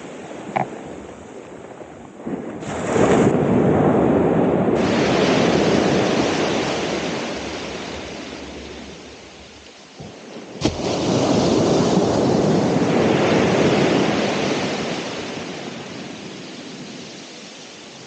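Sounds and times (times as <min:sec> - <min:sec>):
ocean wave crashing and washing: 0:00.0 - 0:18.0.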